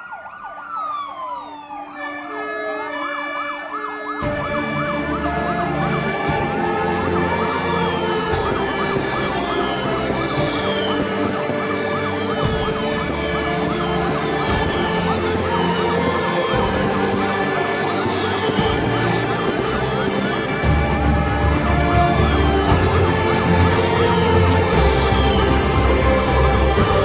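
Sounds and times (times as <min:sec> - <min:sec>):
deep low siren rumble: 0:00.0 - 0:27.0
fire engine sirens yelping: 0:00.0 - 0:27.0.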